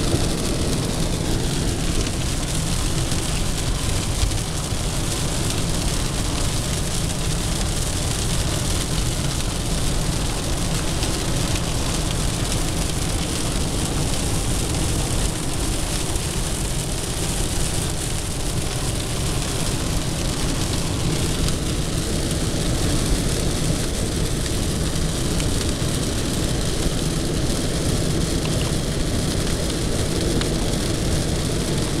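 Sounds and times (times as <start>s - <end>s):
rain on car body: 0.0s - 32.0s
tyres on flooded road: 0.0s - 32.0s.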